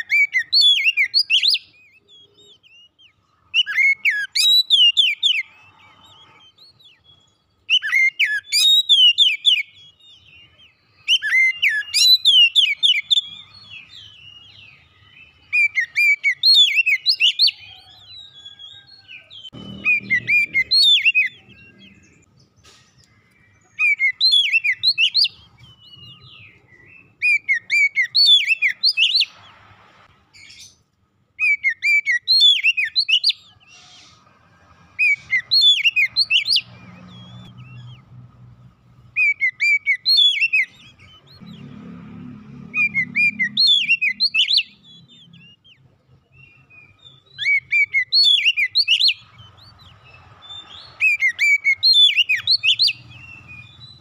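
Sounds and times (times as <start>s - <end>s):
bird whistles and trills: 0.0s - 22.3s, 23.4s - 29.6s, 31.4s - 34.3s, 35.0s - 38.1s, 39.1s - 41.7s, 42.6s - 54.0s.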